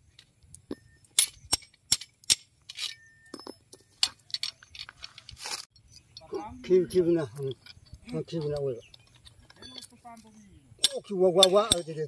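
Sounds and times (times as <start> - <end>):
spanner clinking on metal bolts: 0.7 - 6.3, 6.9 - 10.0, 10.8 - 12.0.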